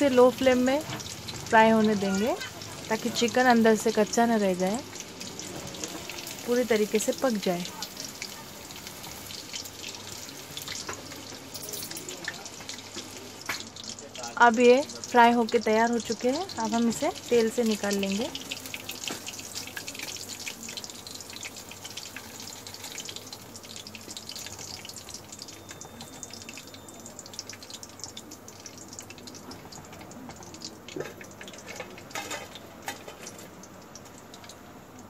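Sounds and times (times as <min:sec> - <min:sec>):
hot oil sizzling and crackling: 0:00.0 - 0:35.0.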